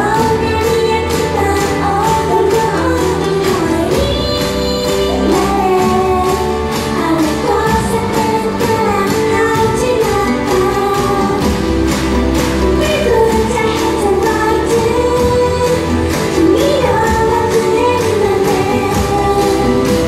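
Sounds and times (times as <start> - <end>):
amplified backing music with beat: 0.0 - 20.0
woman singing: 0.0 - 20.0.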